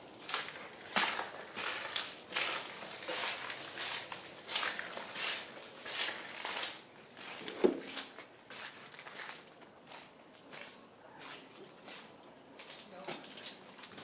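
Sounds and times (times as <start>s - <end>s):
footsteps on wet gritty path: 0.0s - 14.0s.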